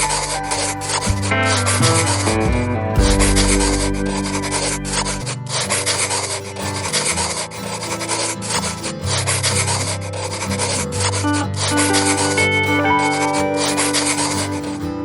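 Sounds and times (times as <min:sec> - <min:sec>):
background music with low notes: 0:00.0 - 0:08.6, 0:11.0 - 0:15.0.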